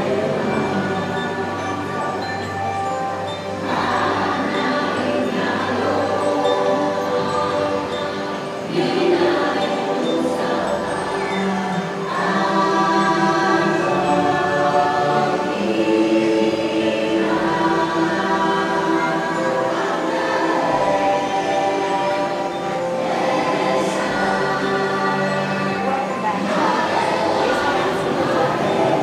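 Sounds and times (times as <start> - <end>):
choir singing held chords: 0.0 - 29.0.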